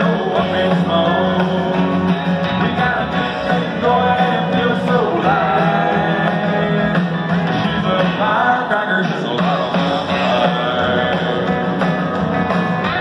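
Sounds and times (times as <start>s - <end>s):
person singing: 0.0s - 12.0s
guitars: 0.0s - 13.0s
live country band: 0.0s - 13.0s.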